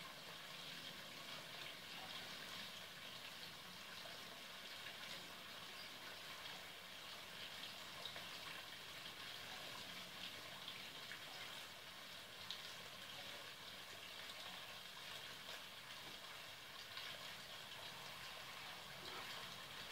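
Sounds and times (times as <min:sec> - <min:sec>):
faint hiss of water: 0:00.0 - 0:19.9.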